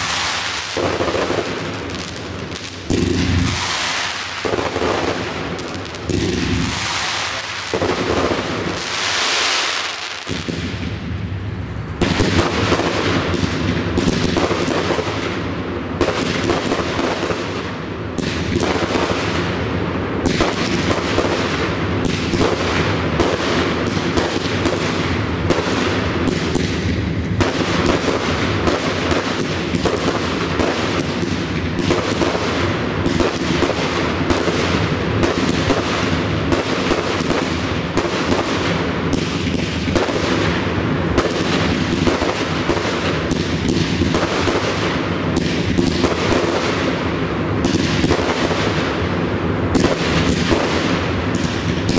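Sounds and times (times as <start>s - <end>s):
fireworks fountain hissing: 0.0s - 51.9s
rapid fireworks cracks and bangs: 0.0s - 51.9s.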